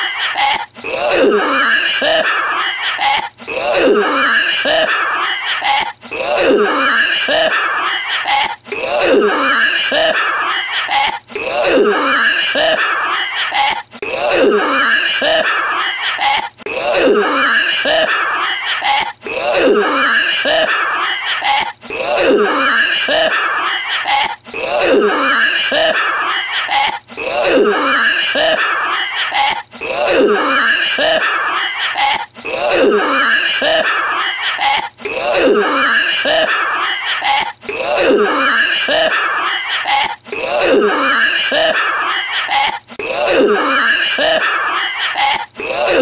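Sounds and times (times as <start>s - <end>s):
man hacking cough: 0.0s - 14.1s, 14.8s - 46.0s.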